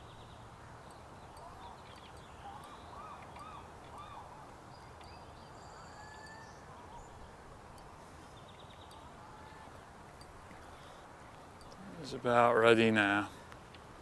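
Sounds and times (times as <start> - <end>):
birds calling: 0.0 - 13.9
steady outdoor hiss: 0.0 - 14.0.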